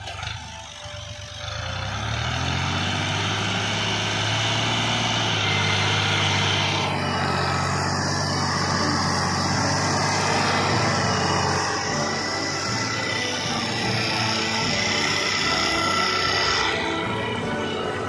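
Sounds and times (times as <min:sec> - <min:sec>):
tractor engine running under load: 0:00.0 - 0:18.0.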